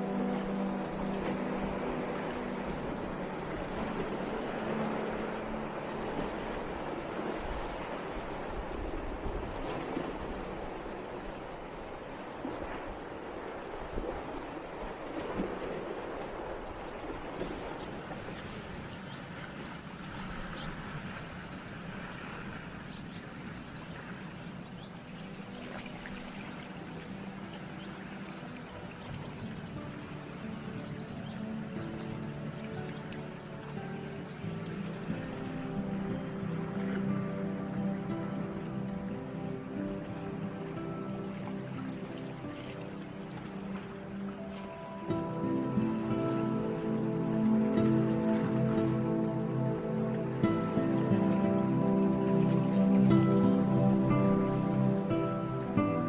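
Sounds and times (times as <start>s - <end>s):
faint distant music: 0.0s - 56.0s
waves washing onto beach: 0.0s - 56.0s.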